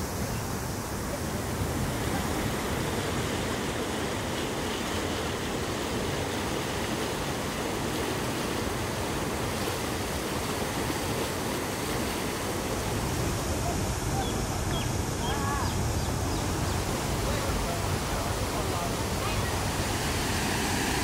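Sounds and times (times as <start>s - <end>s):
river water over rocky rapids: 0.0s - 21.0s.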